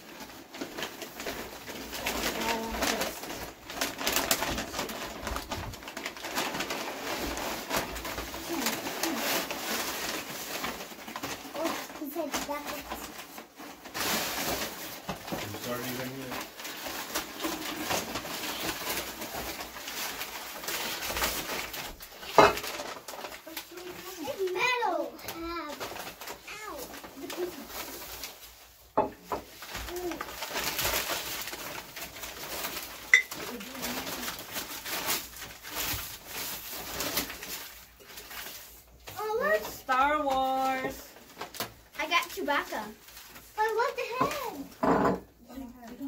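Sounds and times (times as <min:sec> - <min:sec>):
paper bags rustling: 0:00.0 - 0:46.0.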